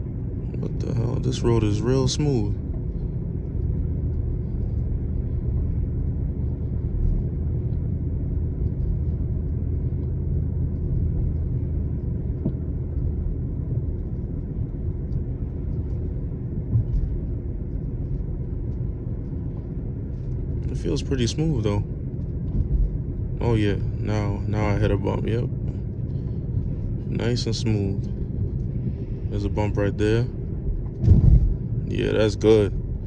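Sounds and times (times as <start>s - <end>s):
road and engine rumble in car: 0.0s - 33.0s.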